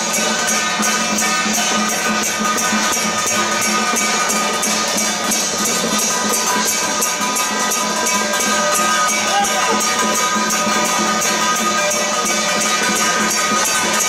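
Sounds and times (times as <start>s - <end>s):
metallic jingling beat: 0.0s - 14.0s.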